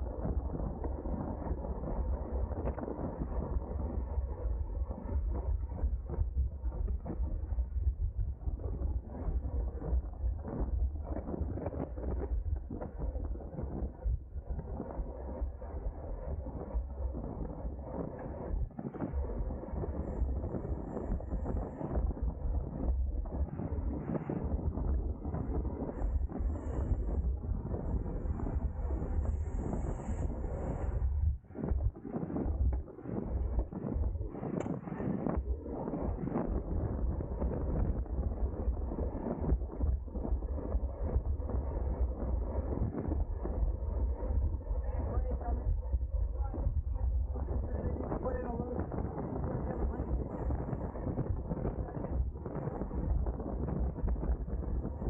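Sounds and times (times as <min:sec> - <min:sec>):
bicycle road noise rumble: 0:00.0 - 0:55.0
wind buffeting microphone: 0:00.0 - 0:55.0.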